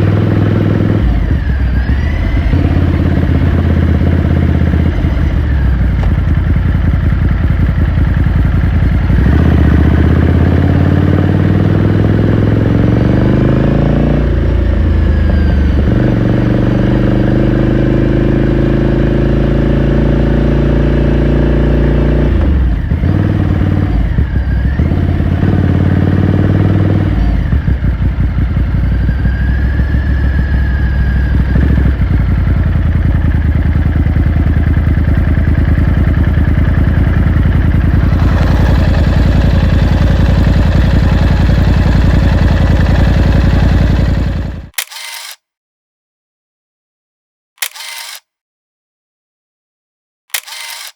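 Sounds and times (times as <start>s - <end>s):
motorcycle engine accelerating: 0.0s - 44.8s.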